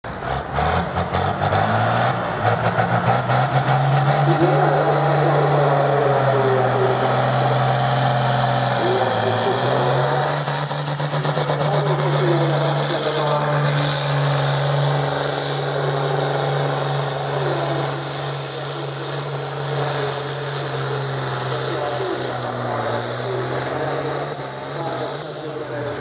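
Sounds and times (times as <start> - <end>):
tractor engine at high revs: 0.0 - 26.0.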